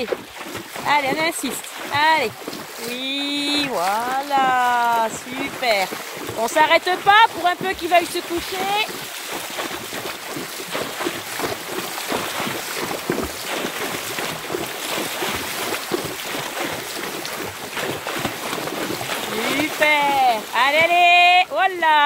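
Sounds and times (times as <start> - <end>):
hooves splashing in water: 0.0 - 22.0.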